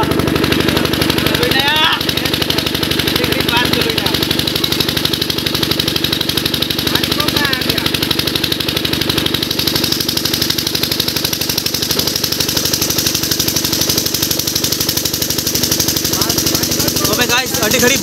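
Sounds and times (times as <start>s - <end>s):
diesel pump engine running: 0.0s - 18.0s
water gushing from pipe: 0.0s - 18.0s.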